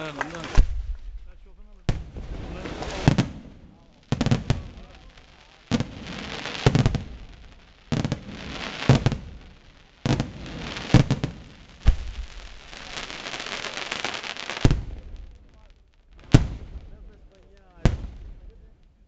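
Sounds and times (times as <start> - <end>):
crackle and hiss of fireworks: 0.0 - 19.0.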